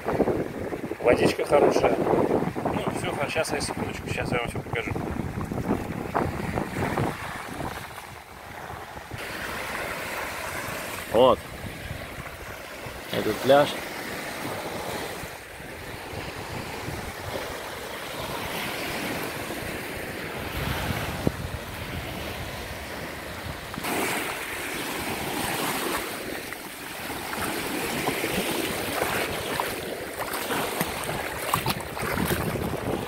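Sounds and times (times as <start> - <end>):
wind buffeting microphone: 0.0 - 13.1, 14.0 - 24.4, 27.0 - 33.0
small waves breaking on shore: 0.0 - 33.0.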